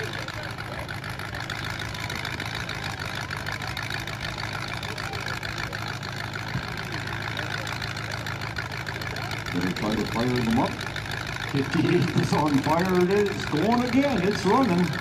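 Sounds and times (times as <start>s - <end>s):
car engines idling: 0.0s - 15.0s.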